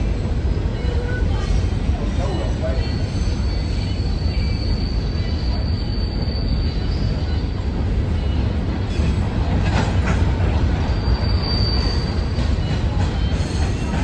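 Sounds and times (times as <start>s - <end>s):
train rumbling on rails: 0.0s - 14.0s
high wheel squeal: 0.5s - 9.3s, 10.7s - 14.0s.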